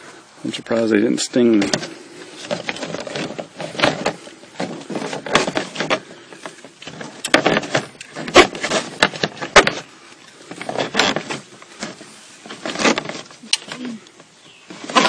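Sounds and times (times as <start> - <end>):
hands handling hardware: 1.5 - 15.0.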